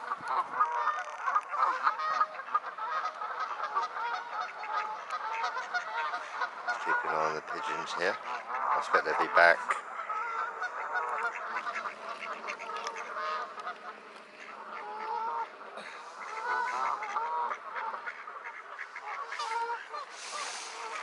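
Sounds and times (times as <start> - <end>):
flock of birds calling: 0.0 - 21.0.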